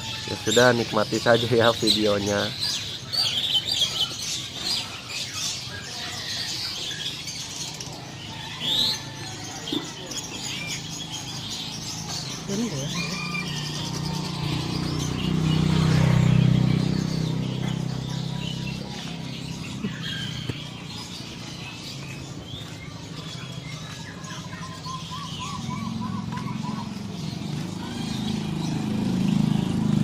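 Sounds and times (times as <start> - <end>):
songbirds chirping and whistling: 0.0 - 30.0.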